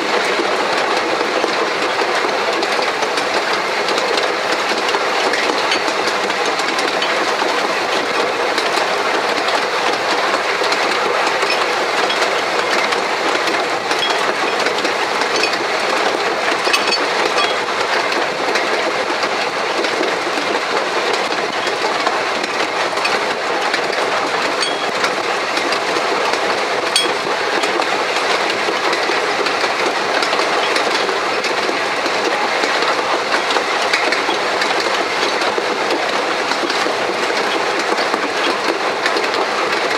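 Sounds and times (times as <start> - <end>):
train wheels clickety-clack on rails: 0.0 - 39.9.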